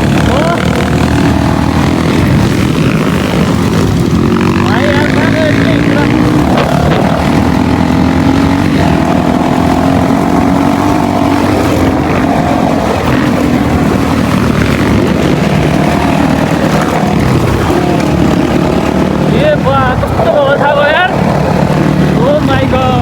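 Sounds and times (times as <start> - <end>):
dirt bike engine running: 0.0 - 23.0
rushing noise: 0.0 - 23.0.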